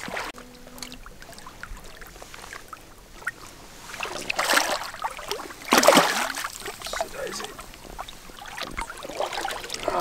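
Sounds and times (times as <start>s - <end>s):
water splashing in shallows: 0.0s - 10.0s.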